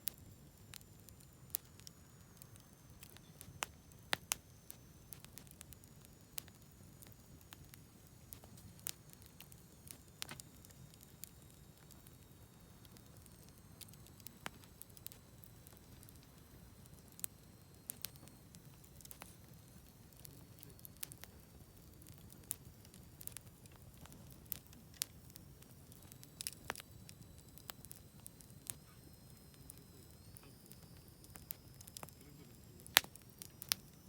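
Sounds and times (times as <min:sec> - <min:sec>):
sharp pops of fire: 0:00.0 - 0:34.0
wood fire crackling: 0:00.0 - 0:34.0.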